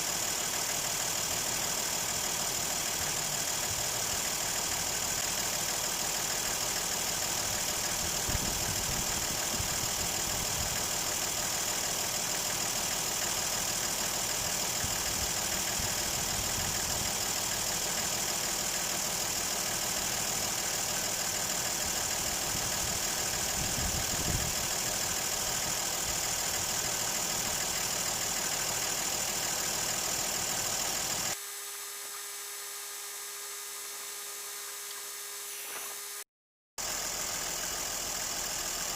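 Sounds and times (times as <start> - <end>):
car engine idling: 0.0 - 31.4, 36.8 - 38.9.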